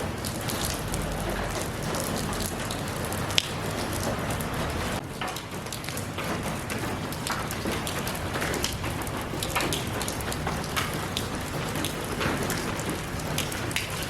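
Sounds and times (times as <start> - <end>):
rain pattering on hard surface: 0.0 - 14.0.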